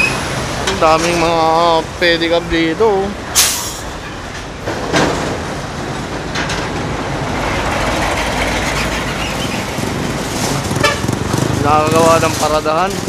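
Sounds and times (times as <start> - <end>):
passing vehicle engines rumbling: 0.0 - 13.0.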